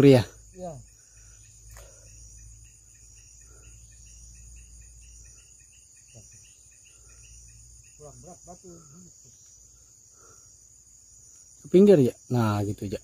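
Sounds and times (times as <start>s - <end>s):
pulsing chirp: 0.0s - 10.7s
insects trilling: 0.0s - 13.0s.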